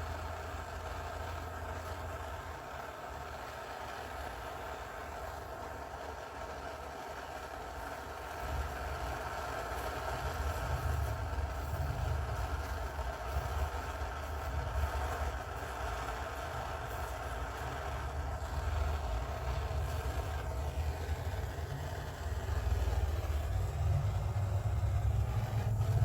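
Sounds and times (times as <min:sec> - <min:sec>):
gas torch flame roaring: 0:00.0 - 0:26.0.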